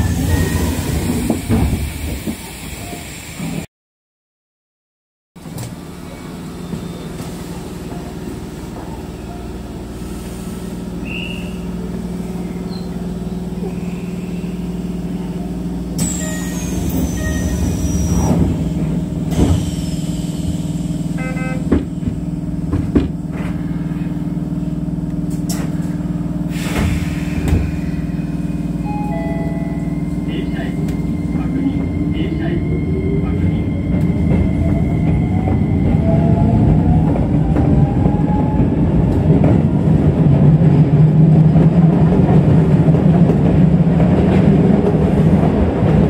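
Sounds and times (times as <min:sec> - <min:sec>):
train running gear hum: 0:00.0 - 0:03.7, 0:05.4 - 0:46.0.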